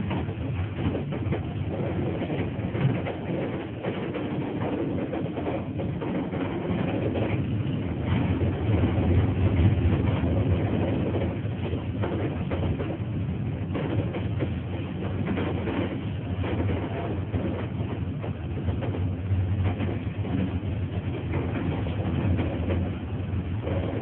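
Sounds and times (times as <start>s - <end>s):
rail clicks and knocks: 0.0s - 24.0s
tram motors and wheels droning: 0.0s - 24.0s.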